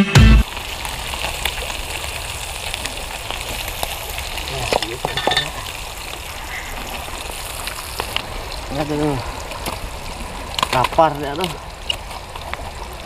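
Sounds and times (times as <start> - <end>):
fish sizzling in hot oil: 0.4 - 13.0.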